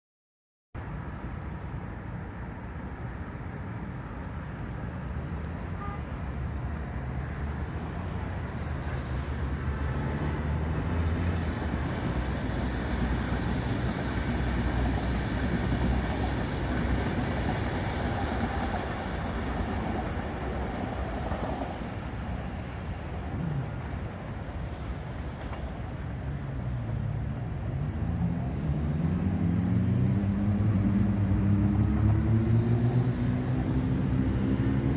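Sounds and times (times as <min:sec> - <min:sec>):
train passing with wheel-on-rail noise: 0:00.8 - 0:34.9.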